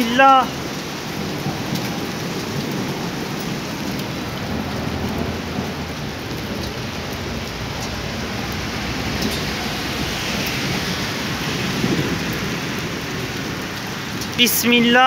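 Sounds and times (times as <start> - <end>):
close raindrop hits: 0.0 - 15.0
rain falling steadily: 0.0 - 15.0.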